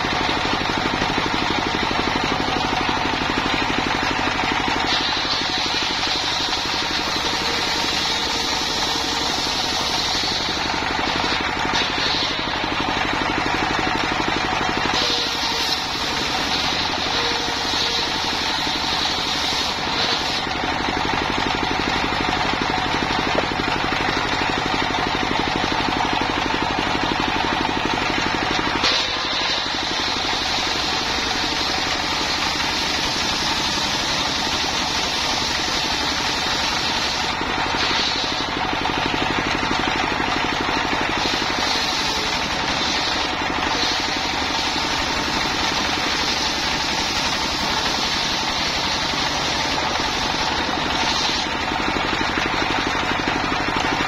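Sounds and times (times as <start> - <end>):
diesel engine running: 0.0 - 54.0
circular saw ripping log: 2.6 - 21.4, 27.8 - 52.6.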